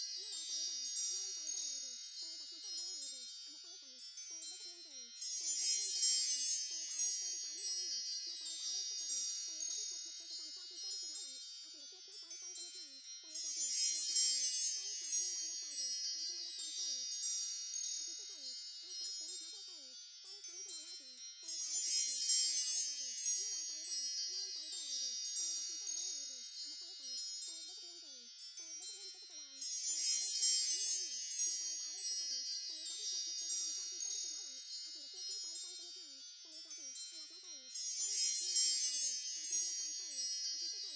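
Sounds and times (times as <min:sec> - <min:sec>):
chimes tinkling: 0:00.0 - 0:40.9.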